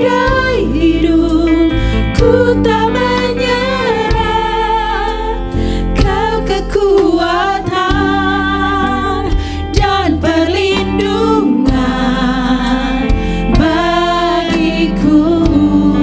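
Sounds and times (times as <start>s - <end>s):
women singing gospel song: 0.0s - 16.0s.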